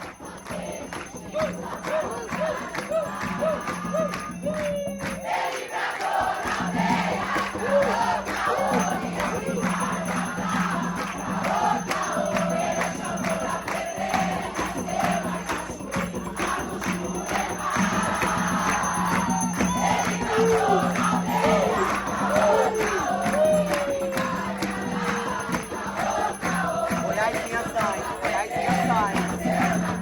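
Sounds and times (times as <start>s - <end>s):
crowd singing: 0.0s - 30.0s
jingling bells: 0.0s - 30.0s
rhythmic drumming: 0.0s - 30.0s.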